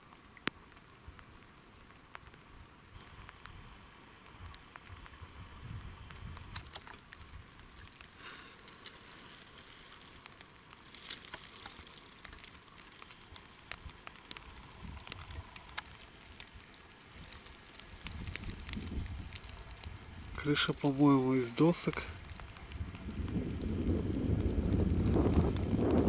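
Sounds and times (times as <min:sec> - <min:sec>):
low uneven rumble: 0:02.5 - 0:26.0.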